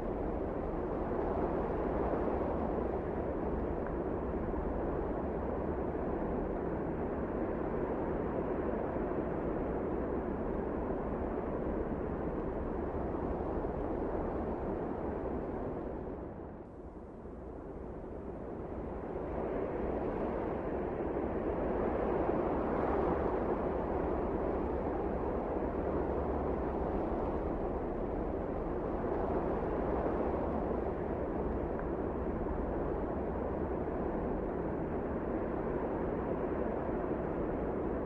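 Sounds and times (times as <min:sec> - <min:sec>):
wind blowing with deep rumble: 0:00.0 - 0:38.0.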